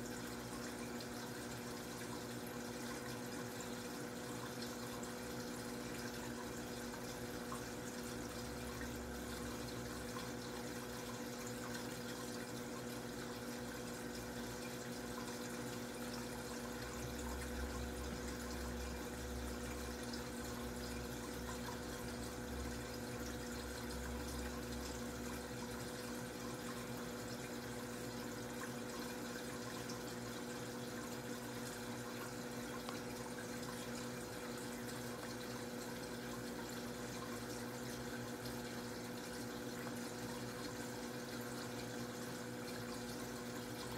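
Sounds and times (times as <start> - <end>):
aquarium filter hum: 0.0 - 43.9
water trickling: 0.0 - 43.9.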